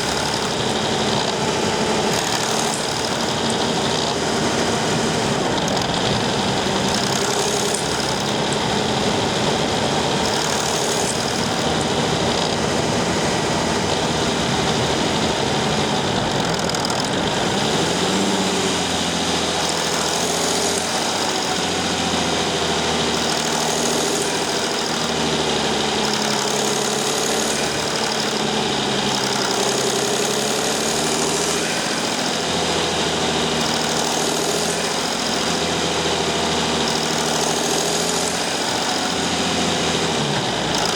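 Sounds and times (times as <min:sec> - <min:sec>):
diesel van engine running: 0:00.0 - 0:40.9.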